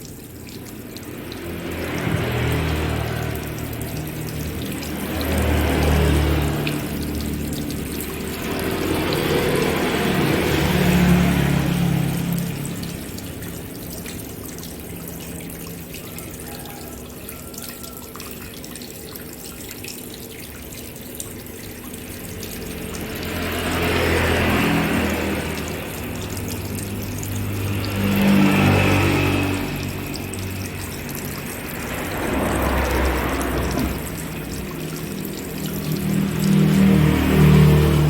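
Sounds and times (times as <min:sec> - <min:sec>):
tap water running into sink: 0:00.0 - 0:38.0.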